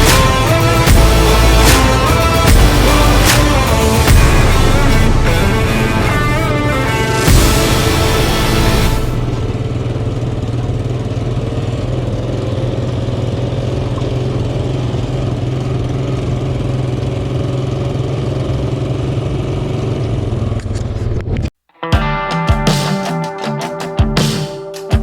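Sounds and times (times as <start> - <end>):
vehicle engine running at low revs: 0.0 - 21.5.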